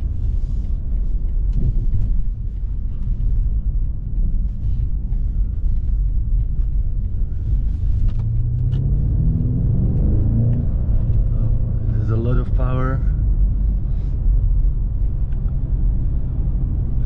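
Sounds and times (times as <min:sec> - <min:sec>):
car engine accelerating: 0:00.0 - 0:17.0
road rumble: 0:00.0 - 0:17.0.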